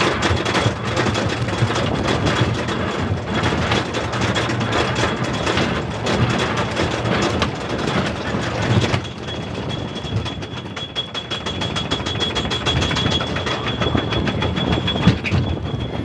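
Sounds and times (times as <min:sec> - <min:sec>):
roller coaster clattering on track: 0:00.0 - 0:16.0.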